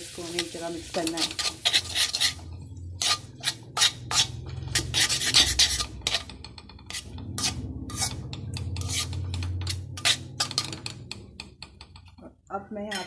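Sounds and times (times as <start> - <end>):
spatula scraping metal pan: 0.1 - 13.0.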